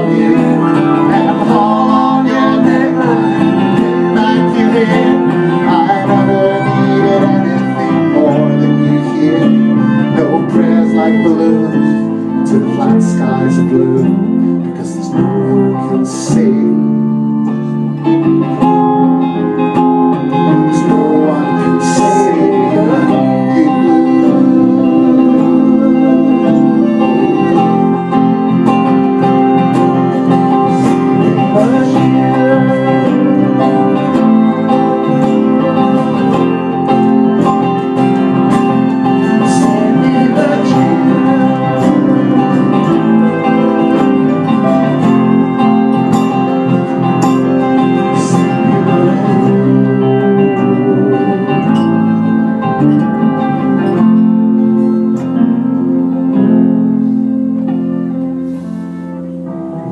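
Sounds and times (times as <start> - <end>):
band led by acoustic guitar: 0.0 - 59.9.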